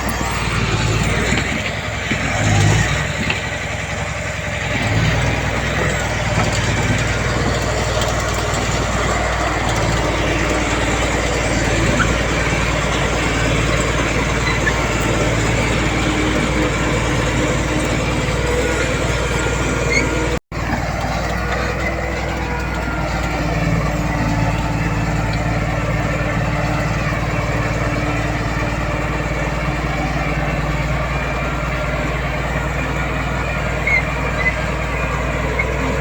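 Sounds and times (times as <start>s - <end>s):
heavy diesel machinery running: 0.0s - 36.0s.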